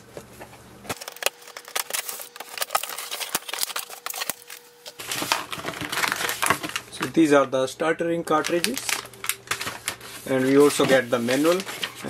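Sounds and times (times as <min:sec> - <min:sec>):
cardboard and tape crackling: 0:00.9 - 0:07.4, 0:08.3 - 0:12.0.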